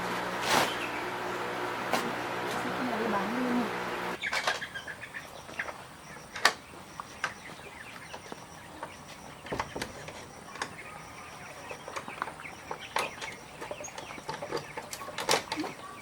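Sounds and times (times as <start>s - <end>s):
chickens clucking: 0.4s - 16.0s.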